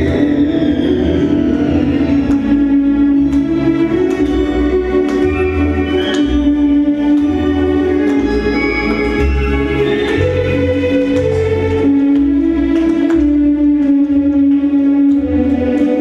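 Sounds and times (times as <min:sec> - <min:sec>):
dance music with sustained notes: 0:00.0 - 0:16.0.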